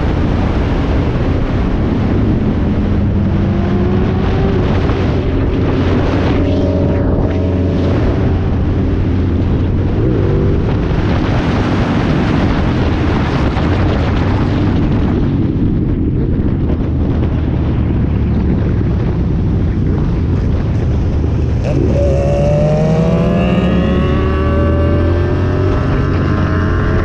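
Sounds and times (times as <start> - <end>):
motorcycle engine running: 0.0 - 27.0
other motorcycle engines: 0.0 - 27.0
wind rush on microphone: 0.0 - 27.0.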